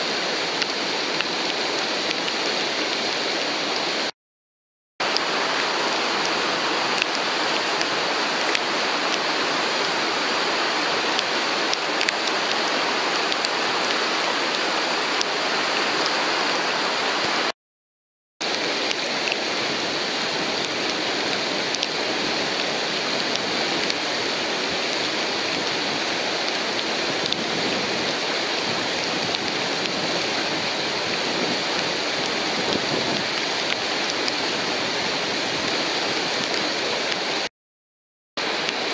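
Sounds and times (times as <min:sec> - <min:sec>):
whitewater rushing: 0:00.0 - 0:04.1, 0:05.0 - 0:17.5, 0:18.4 - 0:37.5, 0:38.4 - 0:38.9.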